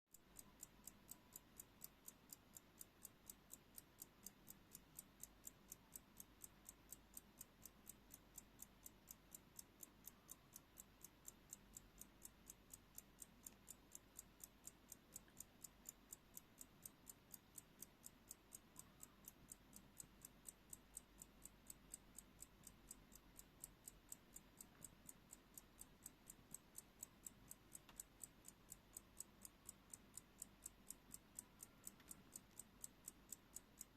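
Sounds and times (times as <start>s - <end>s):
alarm clock ticking: 0.1s - 33.9s.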